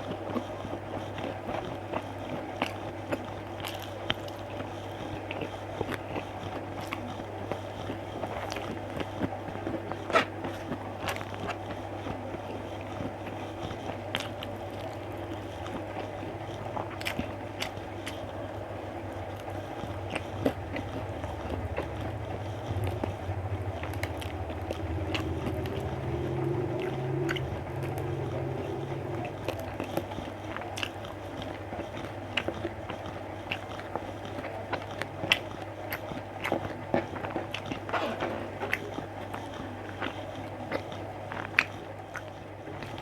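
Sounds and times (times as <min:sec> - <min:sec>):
person chewing food: 0:00.0 - 0:43.0
steady low hum: 0:00.0 - 0:43.0.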